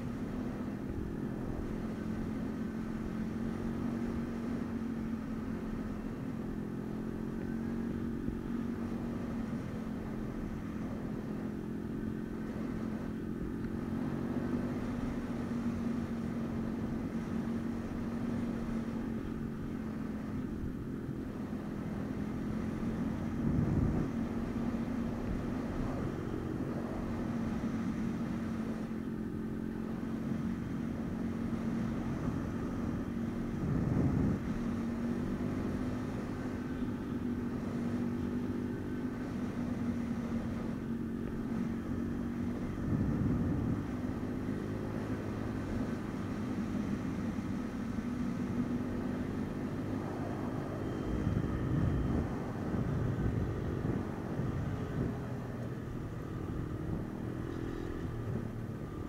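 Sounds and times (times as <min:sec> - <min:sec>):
engine throttle surges: 0:00.0 - 0:59.0
small engine running: 0:00.0 - 0:59.0.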